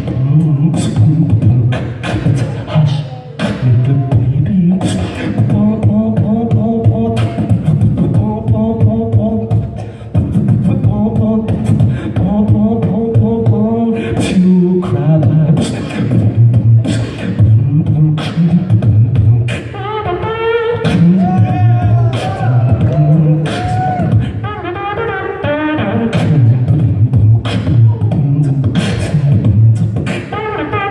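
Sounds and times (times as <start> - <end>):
beatboxing through microphone: 0.0 - 30.9.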